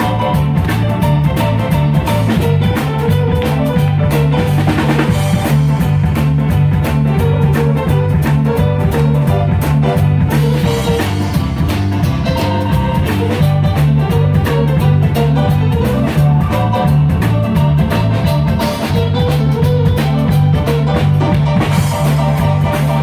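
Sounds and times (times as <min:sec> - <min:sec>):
band playing boogie-woogie: 0:00.0 - 0:23.0
drum kit beat: 0:00.0 - 0:23.0
electric bass walking line: 0:00.0 - 0:23.0.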